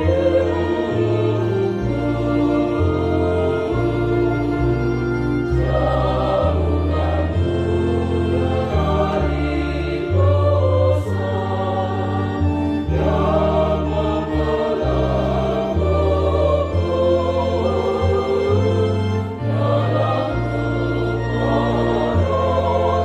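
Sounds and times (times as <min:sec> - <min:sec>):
church choir singing: 0:00.0 - 0:23.0
low bass notes: 0:00.0 - 0:23.0.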